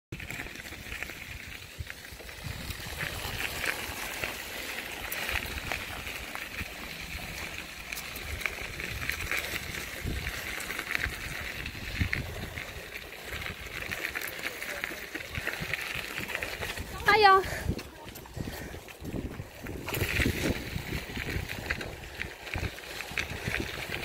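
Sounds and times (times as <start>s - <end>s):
bicycle tyres on gravel: 0.2s - 24.0s
wind rumbling on microphone: 0.2s - 24.0s.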